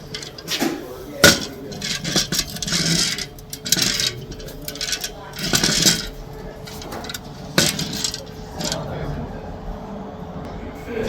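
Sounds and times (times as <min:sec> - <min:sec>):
loose metal parts clattering: 0:00.0 - 0:09.0.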